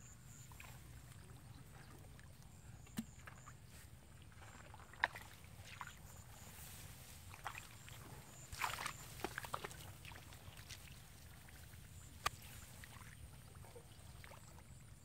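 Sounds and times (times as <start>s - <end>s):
water sloshing and splashing: 0.3s - 15.0s.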